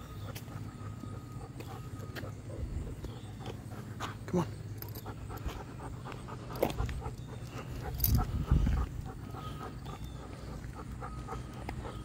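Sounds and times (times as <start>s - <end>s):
dog breathing and sniffing: 0.0s - 12.0s.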